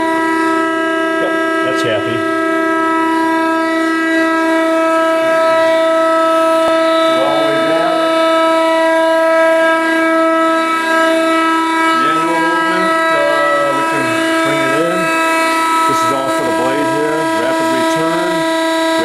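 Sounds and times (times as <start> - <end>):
band saw whining: 0.0 - 19.0.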